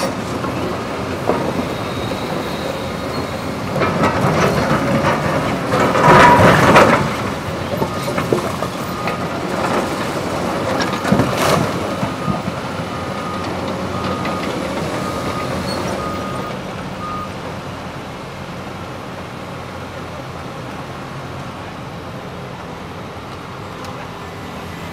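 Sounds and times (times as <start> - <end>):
diesel engines running: 0.0 - 24.9.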